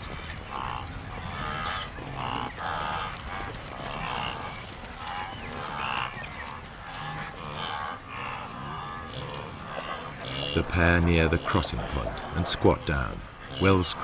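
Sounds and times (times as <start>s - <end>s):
wildebeest nasal grunting calls: 0.0s - 14.0s.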